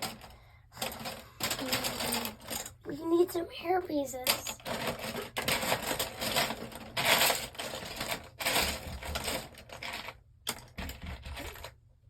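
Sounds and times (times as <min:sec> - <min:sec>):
plastic toy bricks clattering: 0:00.0 - 0:02.8, 0:04.2 - 0:11.8.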